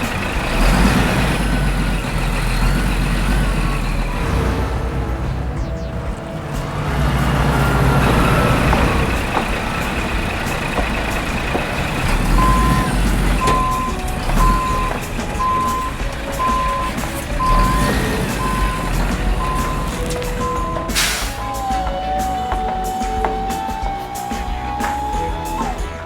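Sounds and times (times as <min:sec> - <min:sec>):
reversing alarm beeping: 0:00.0 - 0:26.0
truck engine rumbling: 0:00.0 - 0:26.0.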